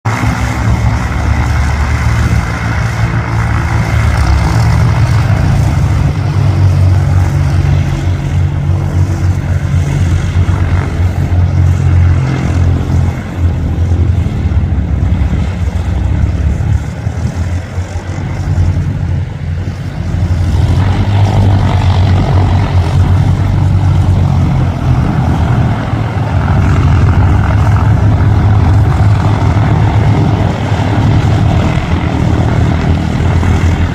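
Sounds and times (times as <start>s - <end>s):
light aircraft engine droning: 0.0s - 33.9s.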